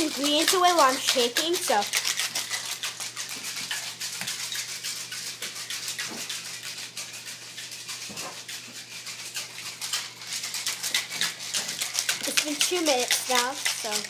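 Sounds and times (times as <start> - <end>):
ice and salt rattling: 0.0 - 14.0.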